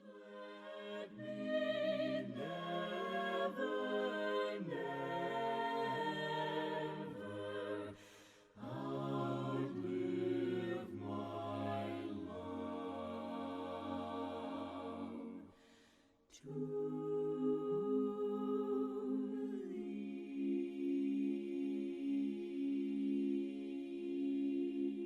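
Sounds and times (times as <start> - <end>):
choir singing a cappella: 0.0 - 25.0.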